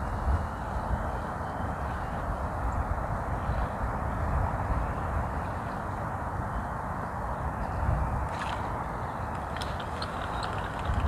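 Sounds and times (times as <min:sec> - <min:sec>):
gusty wind on microphone: 0:00.0 - 0:11.0.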